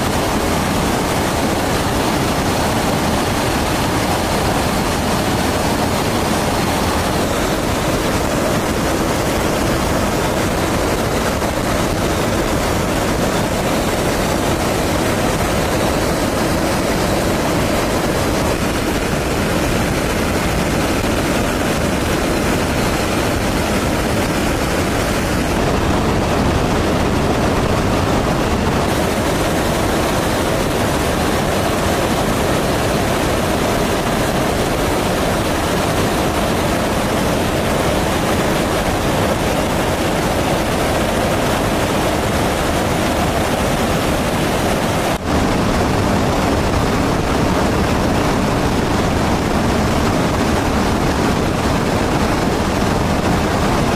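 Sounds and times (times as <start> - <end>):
jet aircraft roar: 0.0 - 53.9.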